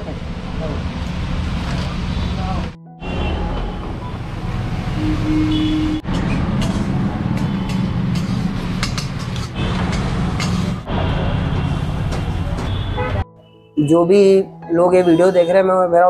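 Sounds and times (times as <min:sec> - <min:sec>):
street traffic rumble: 0:00.0 - 0:13.2.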